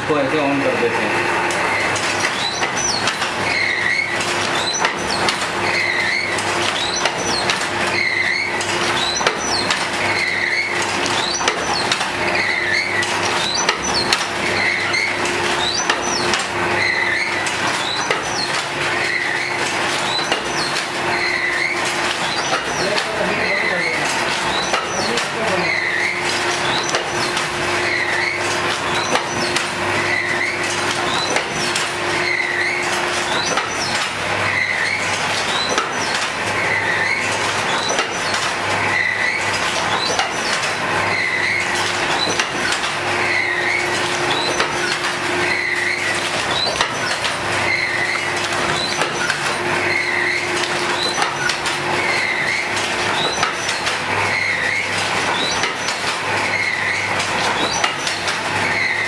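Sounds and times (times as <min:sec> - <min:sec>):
machine motor hum: 0:00.0 - 0:59.0.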